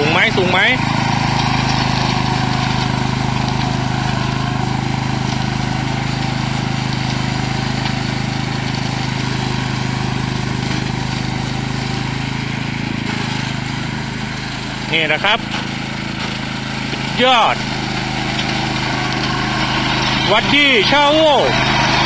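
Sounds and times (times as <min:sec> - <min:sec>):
lawn mower engine running: 0:00.0 - 0:22.0
mower cutting tall grass: 0:00.0 - 0:22.0.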